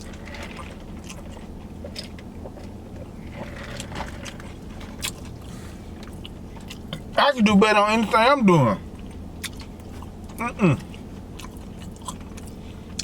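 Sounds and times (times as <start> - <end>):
person chewing crunchy food: 0.0 - 7.2, 8.8 - 13.0.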